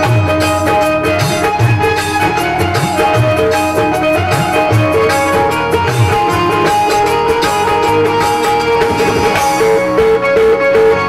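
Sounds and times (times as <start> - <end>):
steady drum beat: 0.0 - 10.7
electronic keyboard melody: 0.0 - 11.0.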